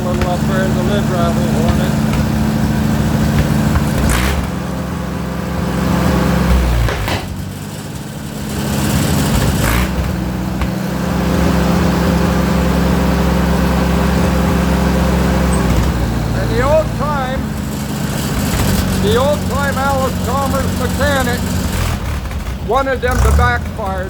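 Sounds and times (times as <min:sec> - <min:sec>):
engine pops: 0:00.0 - 0:24.0
tractor engine running: 0:00.0 - 0:24.0.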